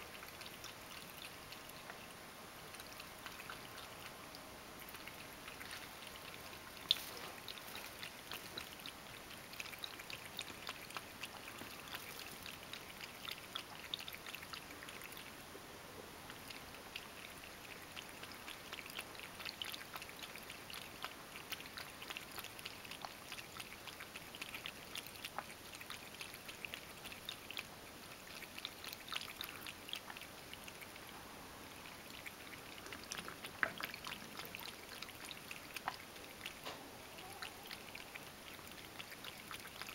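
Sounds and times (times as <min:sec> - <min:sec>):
cat lapping water: 0:00.0 - 0:39.9.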